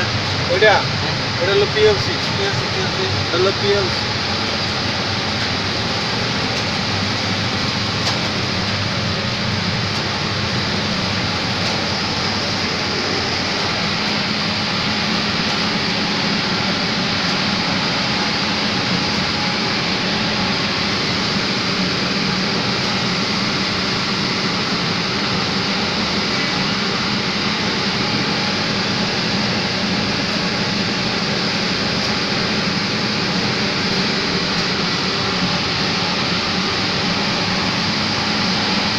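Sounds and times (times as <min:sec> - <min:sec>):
chiller plant machinery rushing: 0:00.0 - 0:38.9
constant low hum: 0:00.0 - 0:38.9.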